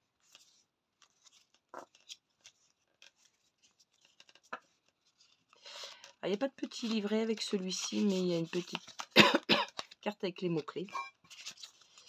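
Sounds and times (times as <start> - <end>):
cards rustling: 0.2 - 12.0.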